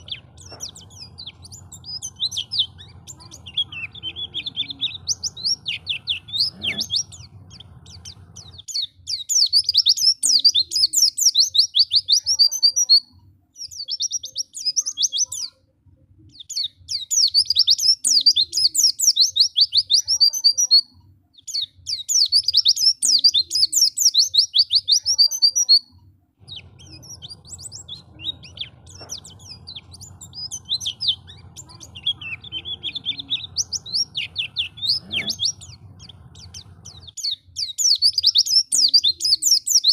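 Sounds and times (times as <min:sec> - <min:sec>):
bird chirping and trilling: 0:00.0 - 0:15.6, 0:16.3 - 0:39.9
faint low hum: 0:00.0 - 0:39.9.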